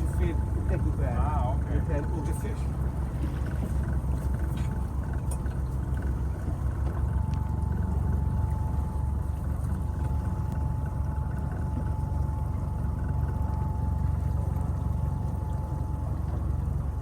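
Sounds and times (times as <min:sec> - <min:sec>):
boat engine rumbling: 0:00.0 - 0:17.0
water sloshing against hull: 0:00.0 - 0:17.0.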